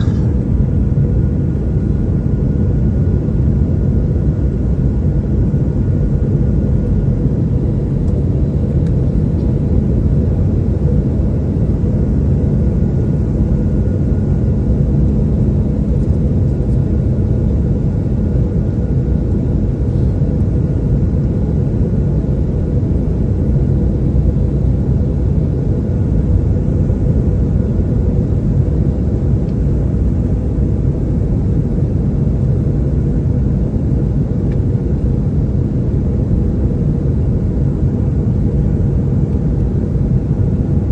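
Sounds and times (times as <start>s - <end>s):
faint steady hum: 0.0s - 40.9s
jet engine rumble in cabin: 0.0s - 40.9s.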